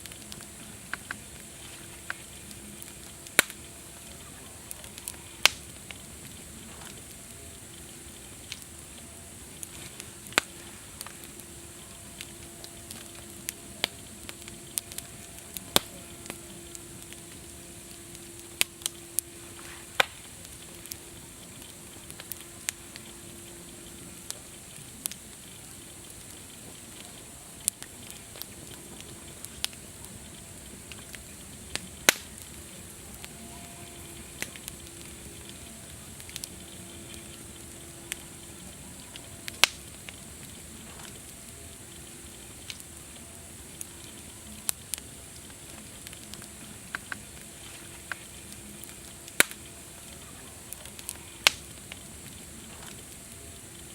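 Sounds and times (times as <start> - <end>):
campfire crackling: 0.0 - 53.9.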